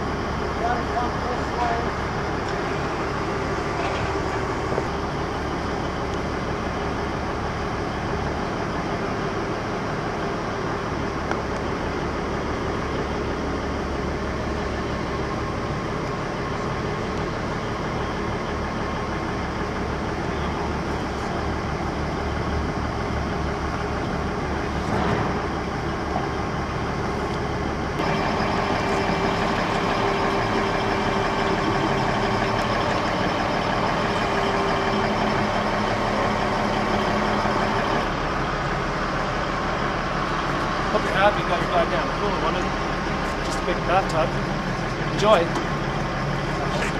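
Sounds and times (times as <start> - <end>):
crane engine running: 0.0 - 46.9.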